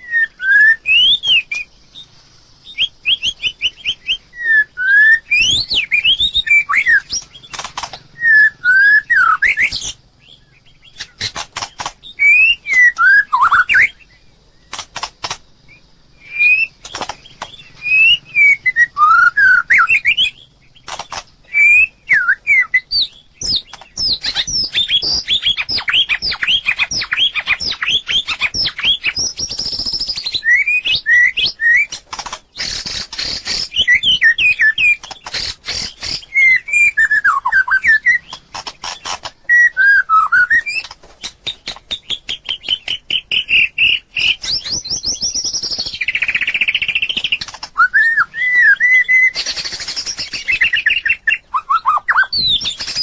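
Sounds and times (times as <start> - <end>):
bird singing varied song: 0.0 - 53.0
harsh rasping bird calls: 0.0 - 53.0.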